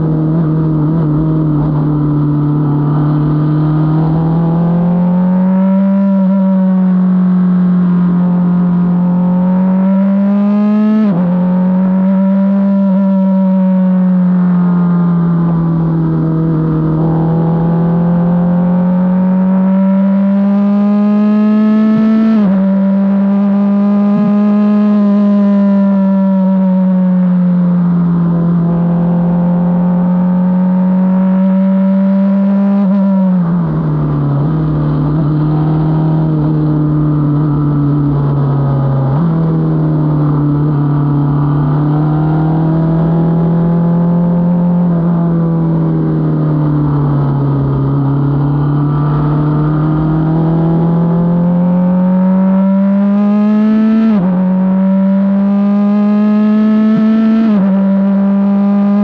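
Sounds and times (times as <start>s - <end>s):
race car engine: 0.0s - 59.0s
wind and road noise: 0.0s - 59.0s.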